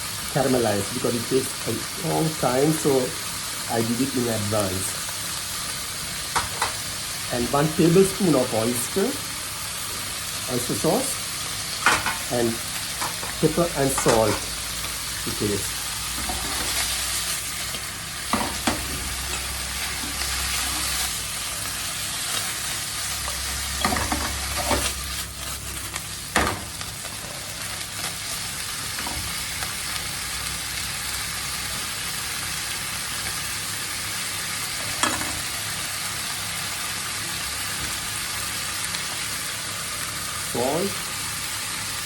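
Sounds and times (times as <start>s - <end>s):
liver sizzling in a pan: 0.0s - 42.0s.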